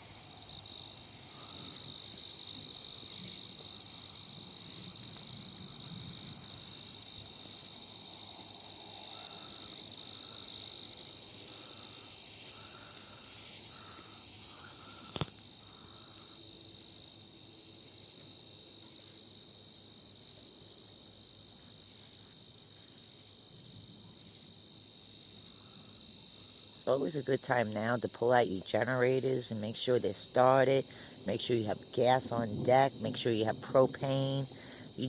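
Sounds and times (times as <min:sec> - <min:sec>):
crickets trilling: 0:00.0 - 0:35.0
short repeated insect call: 0:00.0 - 0:35.0.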